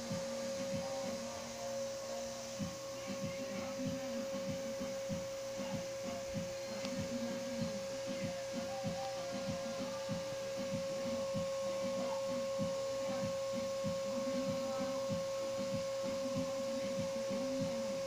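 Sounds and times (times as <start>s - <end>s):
air conditioner humming: 0.0s - 18.0s
high steady tone: 0.0s - 18.0s
low pulsing: 0.0s - 18.0s.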